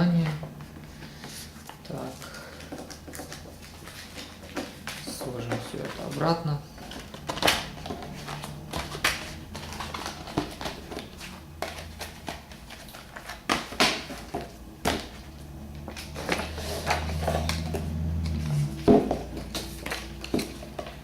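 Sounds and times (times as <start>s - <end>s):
low steady hum: 0.0s - 21.0s
plastic and card clicks and rustles: 0.2s - 21.0s.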